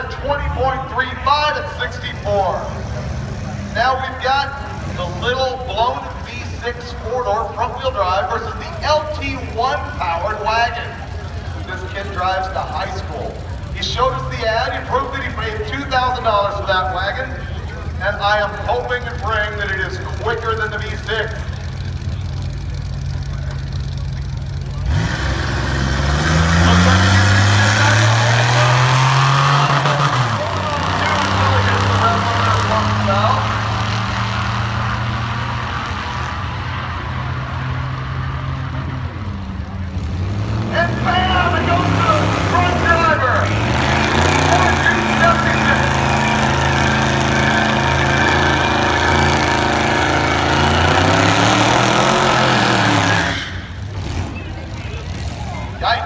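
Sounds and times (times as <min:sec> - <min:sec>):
cars accelerating: 0:00.0 - 0:56.0
drag racing cars idling: 0:00.0 - 0:56.0.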